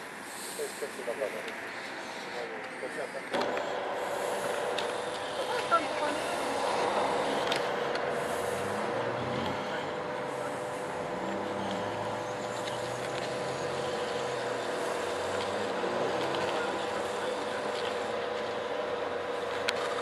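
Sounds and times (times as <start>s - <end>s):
faint voices: 0.0s - 20.0s
motor humming: 1.7s - 20.0s.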